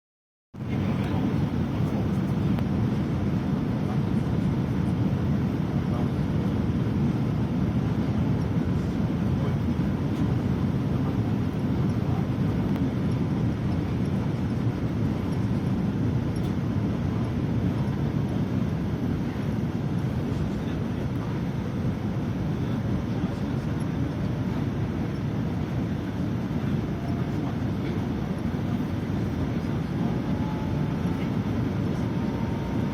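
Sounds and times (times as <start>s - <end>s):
jet airliner flying over: 0.6s - 32.9s.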